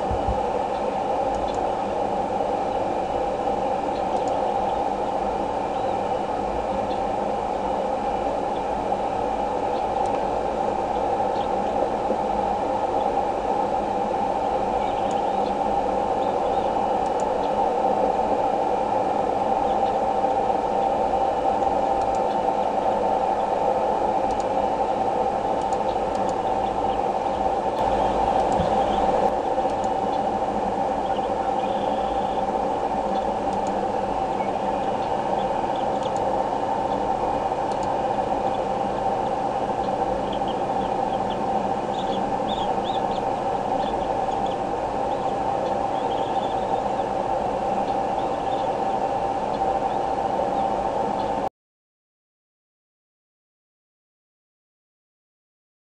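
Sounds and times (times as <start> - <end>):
background hiss and hum: 0.0 - 51.5
steady rushing noise: 0.0 - 51.5.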